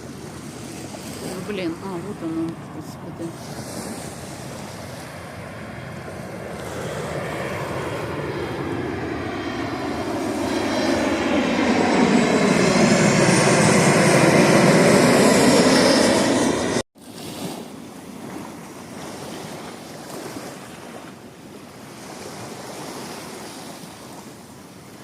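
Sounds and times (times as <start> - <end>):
airplane passing overhead: 0.0 - 25.0.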